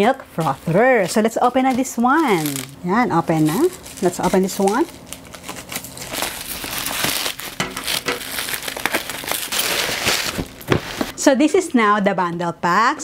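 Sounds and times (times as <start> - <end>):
bubble wrap crinkling: 0.0 - 11.1.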